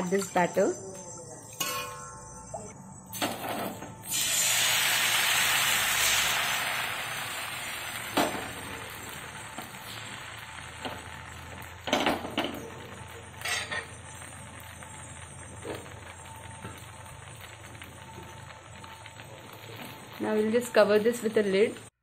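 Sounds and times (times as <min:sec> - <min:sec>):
batter sizzling in a pan: 0:03.2 - 0:22.0.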